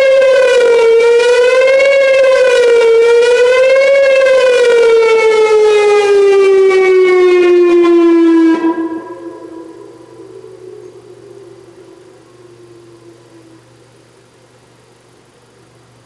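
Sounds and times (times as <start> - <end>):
wavering warning siren: 0.0 - 15.2.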